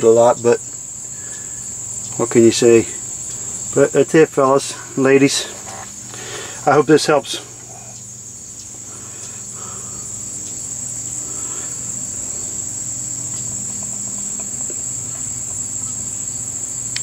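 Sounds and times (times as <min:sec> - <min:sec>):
faint low hum: 0:00.0 - 0:17.0
high-pitched insect chorus: 0:00.0 - 0:17.0.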